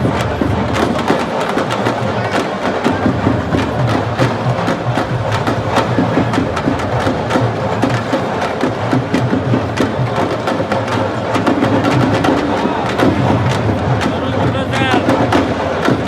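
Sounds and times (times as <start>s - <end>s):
drums playing fast rhythm: 0.0s - 16.0s.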